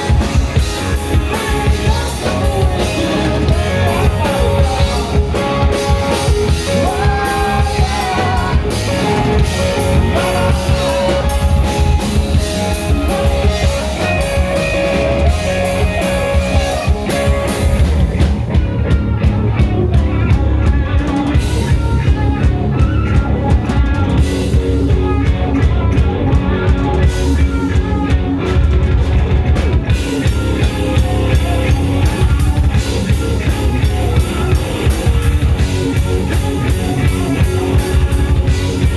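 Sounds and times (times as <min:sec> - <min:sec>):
drum kit: 0:00.0 - 0:38.9
guitar: 0:00.0 - 0:38.9
rock band playing live: 0:00.0 - 0:38.9.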